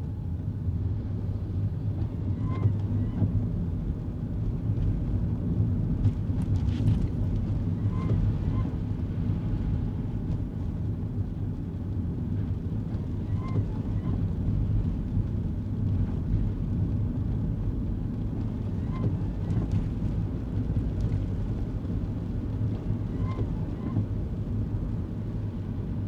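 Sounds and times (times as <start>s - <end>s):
road and engine rumble: 0.0s - 26.0s.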